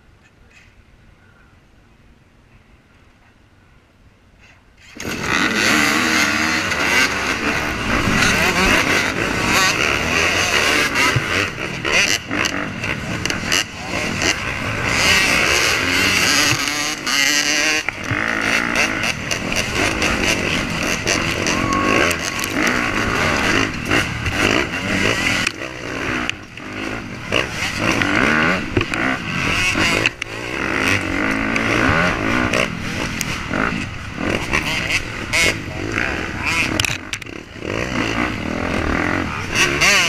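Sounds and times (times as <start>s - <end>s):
dirt bike engines revving: 4.8s - 40.0s.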